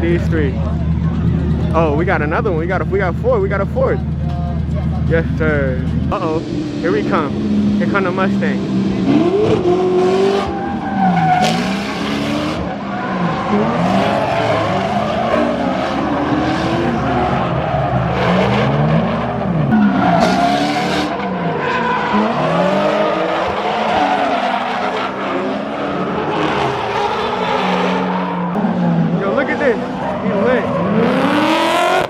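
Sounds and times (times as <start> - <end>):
car engines revving hard: 0.0 - 32.0.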